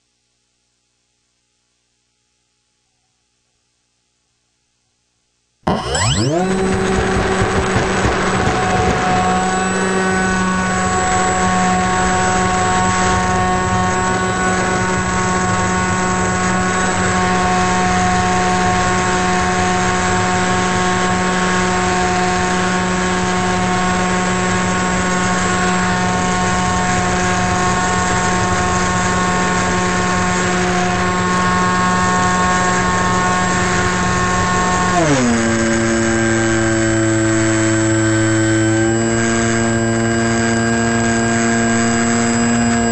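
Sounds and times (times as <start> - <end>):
model plane motor and propeller: 5.7 - 42.9.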